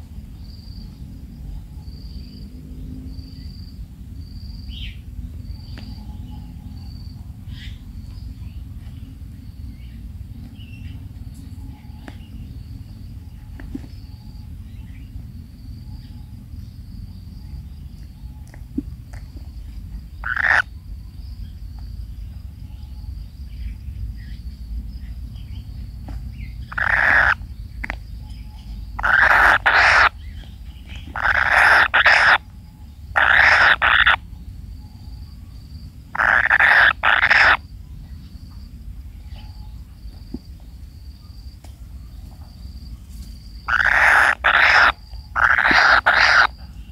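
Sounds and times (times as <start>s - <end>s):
faint high insect-like tone: 0.0s - 46.9s
low steady hum: 0.0s - 46.9s
bird chicks rasping calls: 4.6s - 46.9s.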